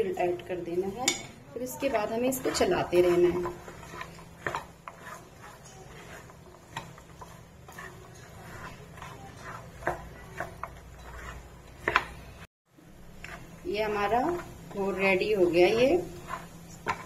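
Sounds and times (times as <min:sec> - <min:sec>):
spoon scraping a pan: 0:00.0 - 0:12.5, 0:13.1 - 0:17.0.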